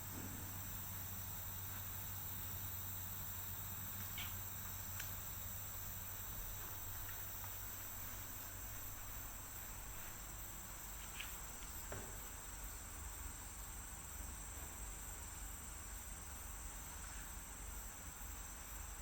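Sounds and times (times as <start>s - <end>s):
rainforest insect chorus: 0.0s - 19.0s.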